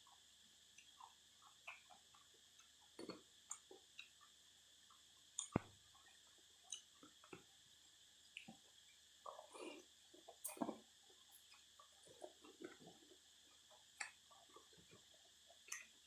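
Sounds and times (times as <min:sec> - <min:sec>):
person chewing and lip smacking: 0:00.8 - 0:04.3, 0:04.9 - 0:07.5, 0:08.3 - 0:16.0.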